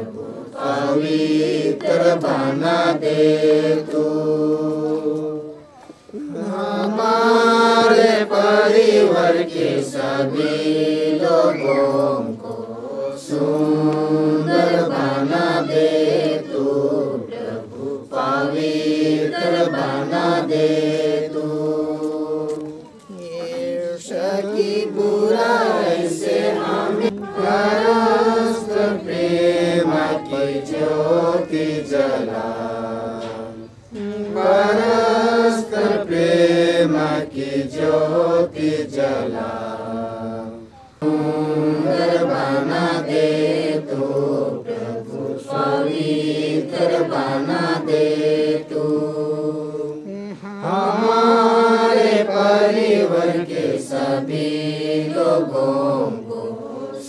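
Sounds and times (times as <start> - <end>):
voices singing chant-like melody: 0.0 - 57.0.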